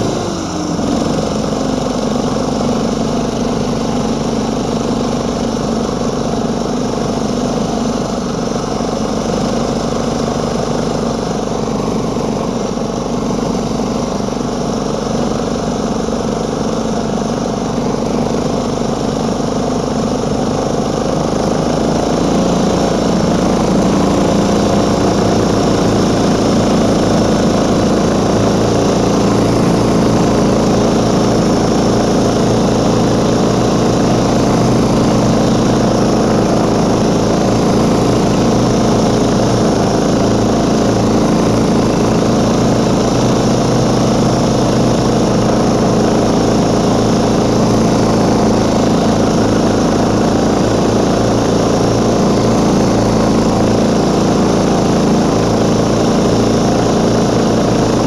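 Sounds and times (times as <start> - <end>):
snow scooter engine running: 0.0 - 58.0.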